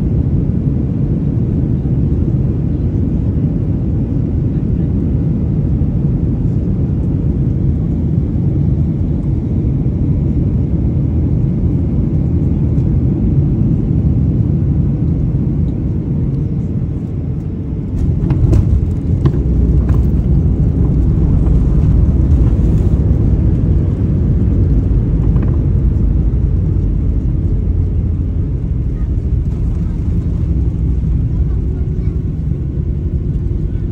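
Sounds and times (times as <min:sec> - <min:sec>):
jet engine and airflow rumble: 0:00.0 - 0:33.9.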